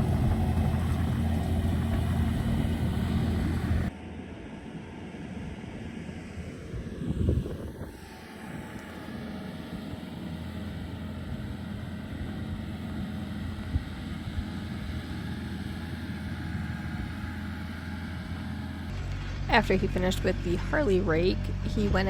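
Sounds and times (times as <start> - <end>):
loader engine running: 0.0 - 22.0.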